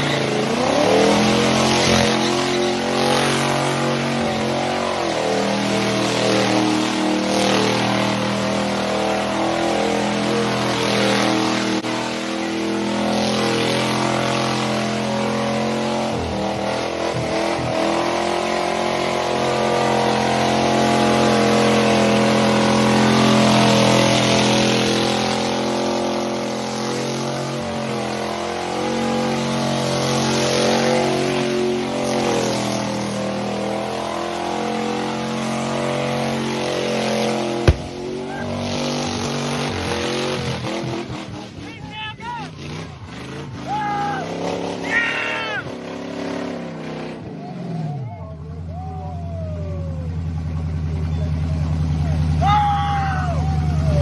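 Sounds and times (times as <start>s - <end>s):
truck engine at high revs: 0.0s - 54.0s.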